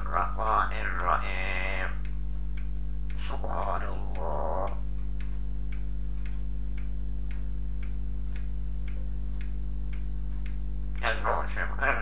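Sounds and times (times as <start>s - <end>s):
low electrical hum: 0.0s - 12.0s
regular ticking: 0.6s - 12.0s.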